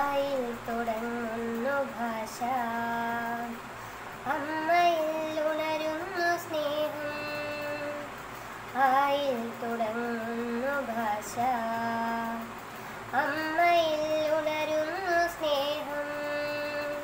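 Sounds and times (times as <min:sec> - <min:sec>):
girl singing: 0:00.0 - 0:17.0.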